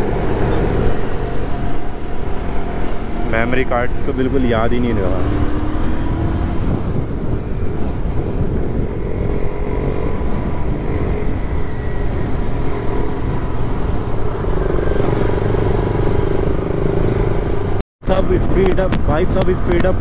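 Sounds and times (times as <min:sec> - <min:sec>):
road noise: 0:00.0 - 0:20.0
wind noise: 0:00.0 - 0:20.0.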